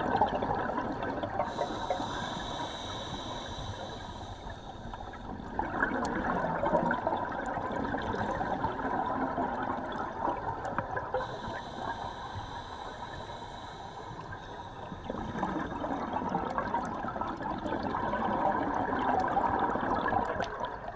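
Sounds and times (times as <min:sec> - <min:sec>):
underwater air bubbling: 0:00.0 - 0:20.9.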